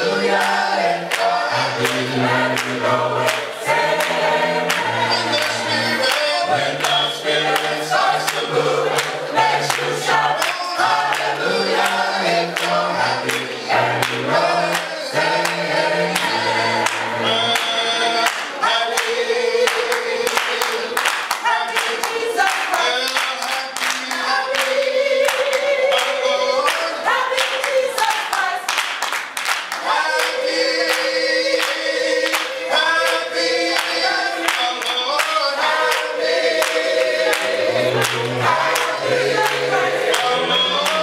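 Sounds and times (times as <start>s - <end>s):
choir singing: 0.0s - 28.8s, 29.7s - 41.0s
hand clapping: 0.4s - 41.0s.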